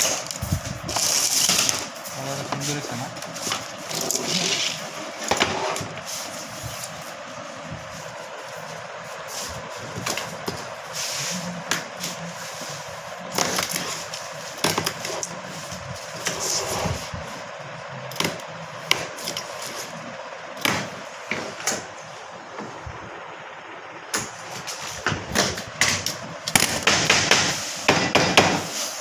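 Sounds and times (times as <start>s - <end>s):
steady machine hum: 0.0s - 29.0s.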